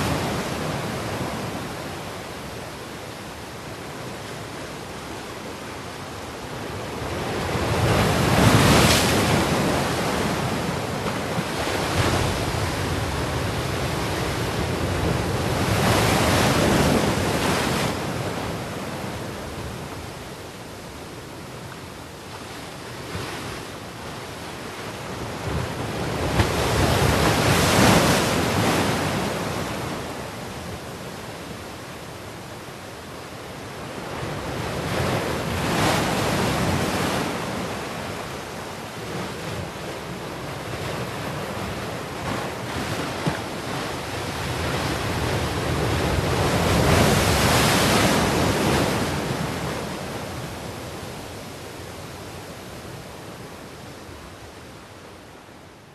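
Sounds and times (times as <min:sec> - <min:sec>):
heavy waves crashing: 0:00.0 - 0:21.2, 0:22.4 - 0:55.5.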